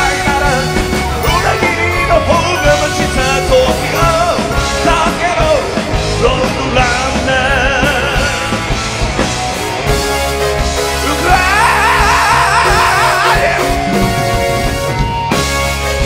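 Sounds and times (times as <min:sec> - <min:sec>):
wavering lead line: 0:00.0 - 0:15.8
rock band playing live: 0:00.0 - 0:16.0.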